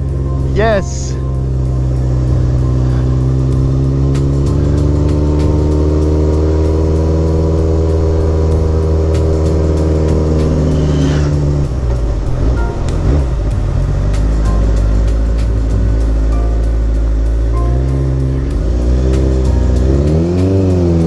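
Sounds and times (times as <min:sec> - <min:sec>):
background music: 0:00.0 - 0:21.0
motorcycle engine cruising: 0:00.0 - 0:21.0.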